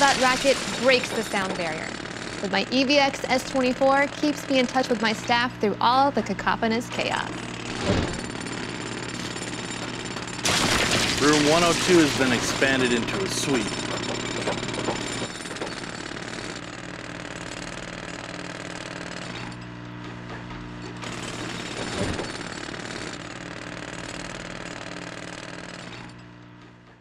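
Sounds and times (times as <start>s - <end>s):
rapid mechanical hammering: 0.0s - 5.5s, 7.0s - 27.0s.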